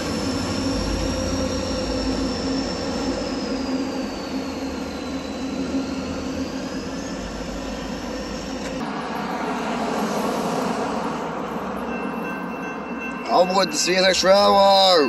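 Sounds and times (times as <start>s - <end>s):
high wheel squeal: 0.0s - 15.0s
train rumbling at low speed: 0.0s - 15.0s.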